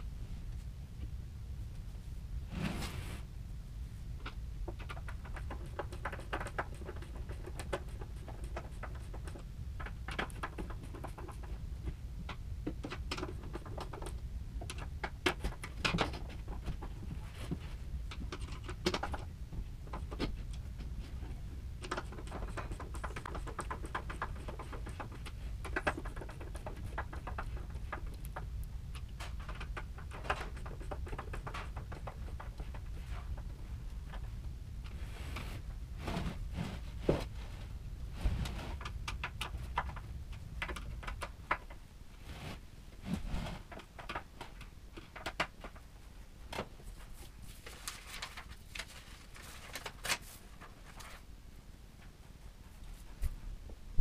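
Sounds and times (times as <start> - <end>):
steady low hum: 0.0 - 49.7.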